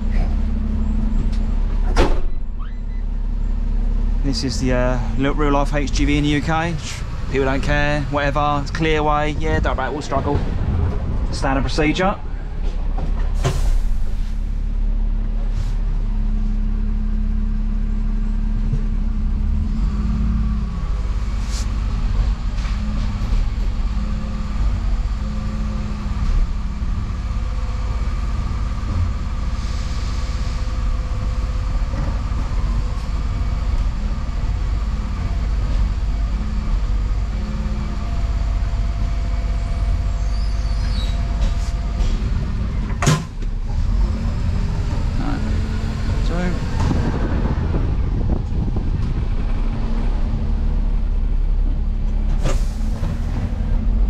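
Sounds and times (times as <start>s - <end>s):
diesel lorry engine running: 0.0s - 54.0s.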